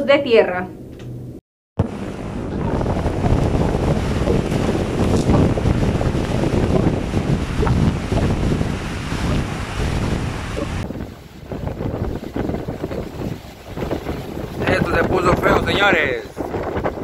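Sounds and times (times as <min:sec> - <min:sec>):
waves breaking on shore: 0:01.8 - 0:17.0
wind buffeting microphone: 0:01.8 - 0:17.0.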